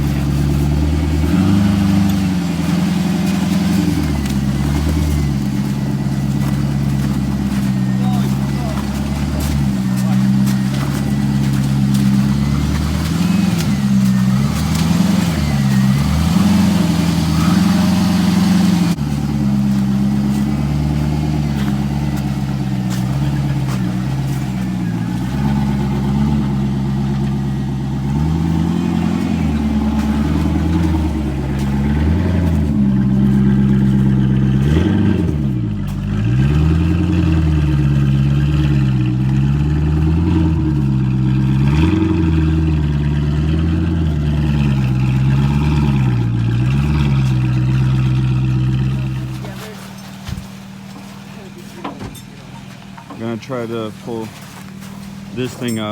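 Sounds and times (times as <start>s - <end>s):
vehicle engine revving: 0.0s - 55.9s.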